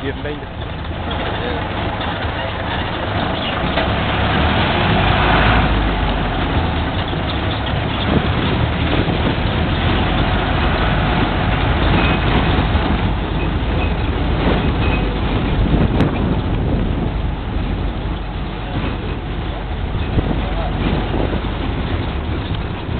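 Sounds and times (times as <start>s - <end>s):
truck engine rumble: 0.0s - 22.9s
tyres on rough street: 0.0s - 22.9s
wind on microphone: 2.2s - 22.9s.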